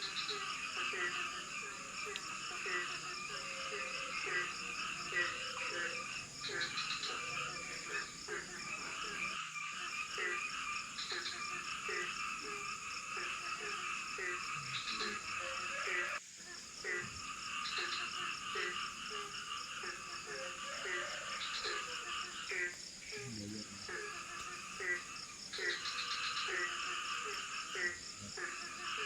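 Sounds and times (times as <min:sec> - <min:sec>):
frog croaks: 0:00.0 - 0:29.0
high-pitched insect tone: 0:00.0 - 0:29.0.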